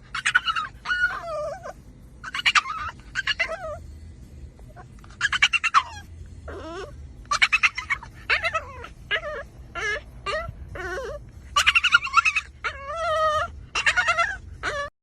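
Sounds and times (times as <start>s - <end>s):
dog whining and yipping: 0.0s - 15.0s.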